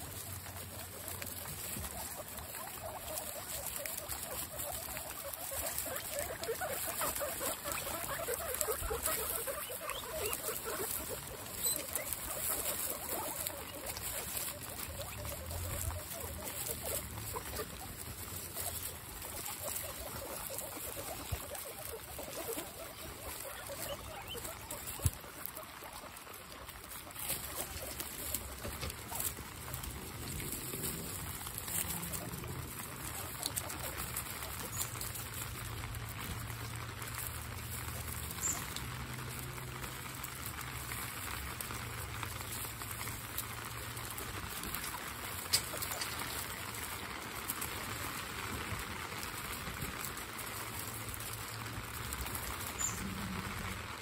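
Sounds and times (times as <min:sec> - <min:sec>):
guinea pigs squeaking: 0:00.0 - 0:54.0
rain pattering: 0:00.0 - 0:54.0.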